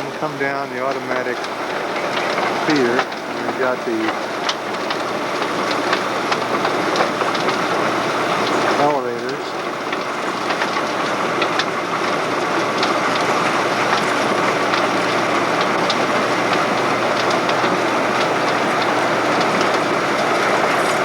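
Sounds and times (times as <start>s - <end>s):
mechanical running noise: 0.0s - 21.0s.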